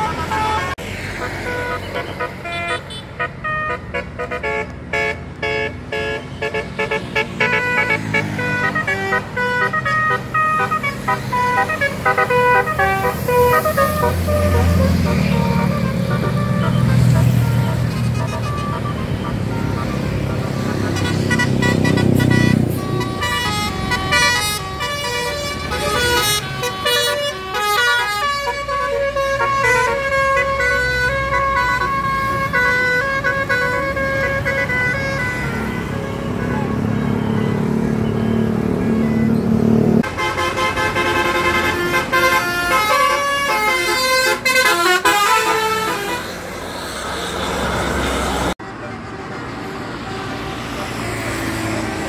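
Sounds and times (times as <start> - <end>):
multi-tone musical bus horn: 0.0 - 52.0.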